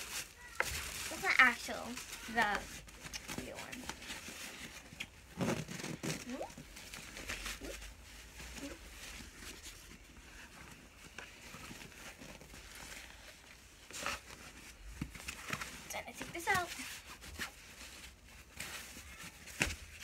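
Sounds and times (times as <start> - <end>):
nylon sack rustling: 0.0 - 20.0
small crinkles and taps: 0.1 - 7.8, 8.5 - 20.0.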